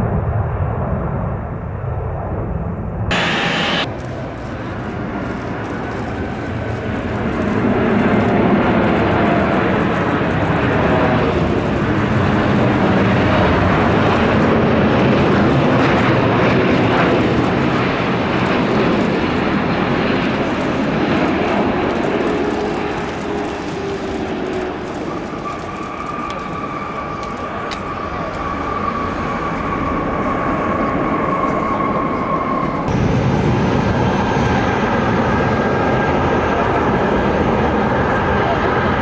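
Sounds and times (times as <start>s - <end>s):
airliner engine noise: 0.0s - 39.0s.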